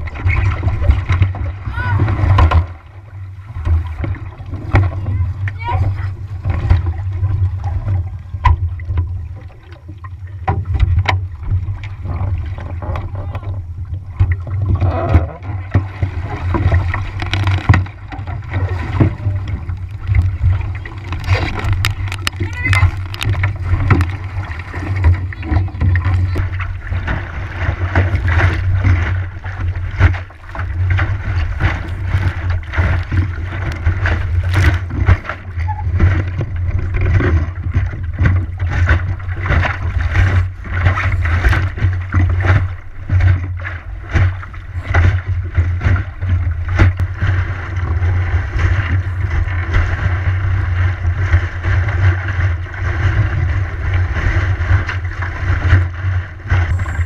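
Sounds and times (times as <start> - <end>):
water slapping against hull: 0.0 - 57.0.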